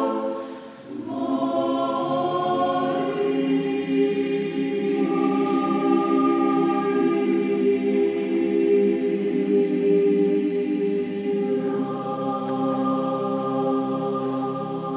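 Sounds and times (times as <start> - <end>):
choir-like sustained chords: 0.0 - 14.9.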